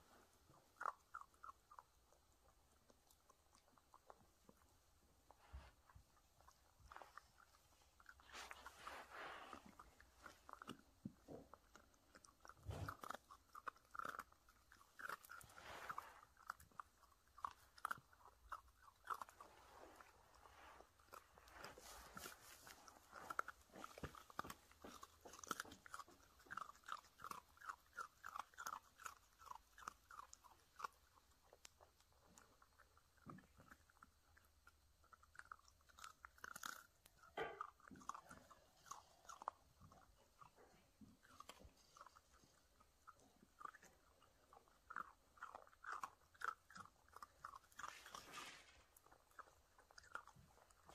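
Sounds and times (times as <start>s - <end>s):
puppy crunching a cookie: 0.0s - 50.9s.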